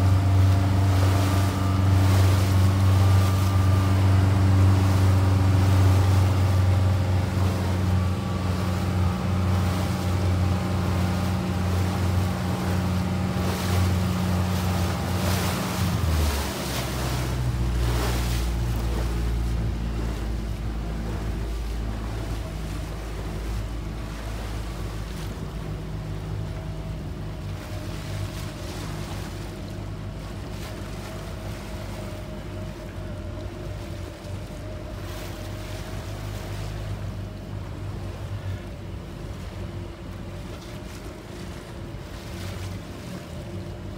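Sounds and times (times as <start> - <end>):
choppy water: 0.0 - 43.9
motorboat engine running: 0.0 - 43.9
wind: 0.0 - 43.9.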